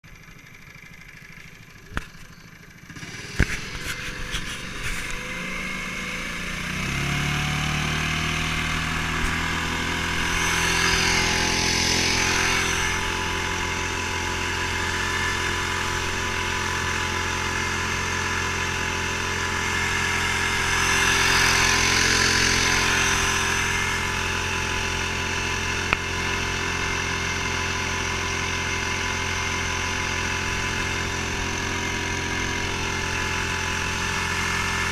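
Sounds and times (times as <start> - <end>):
boat motor running: 0.1 - 34.9.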